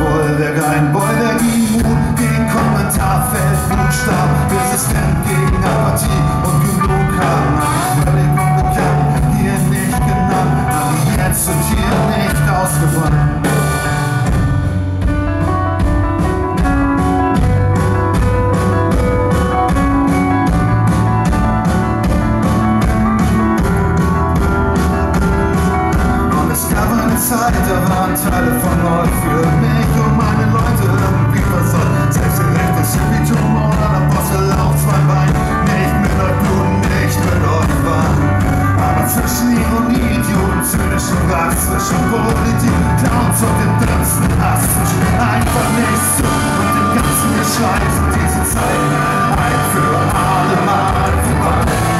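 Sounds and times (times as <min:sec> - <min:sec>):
drums keeping a beat: 0:00.0 - 0:51.9
electric bass: 0:00.0 - 0:51.9
electric guitars: 0:00.0 - 0:51.9.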